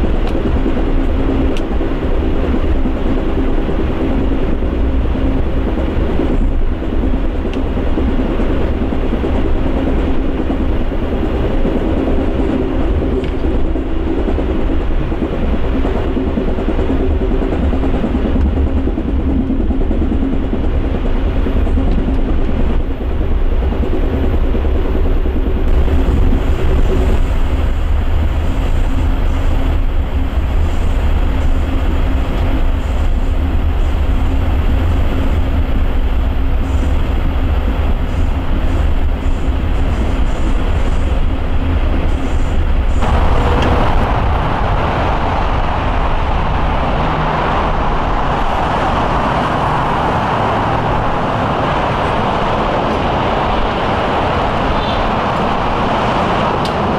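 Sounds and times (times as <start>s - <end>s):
freeway traffic noise: 0.0s - 56.9s
train rumbling on track: 0.0s - 56.9s.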